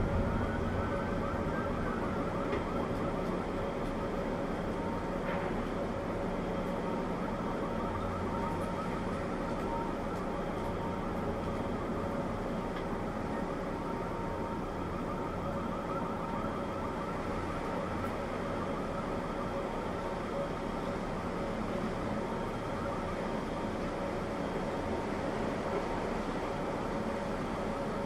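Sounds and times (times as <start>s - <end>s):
distant warning sirens: 0.0s - 28.0s.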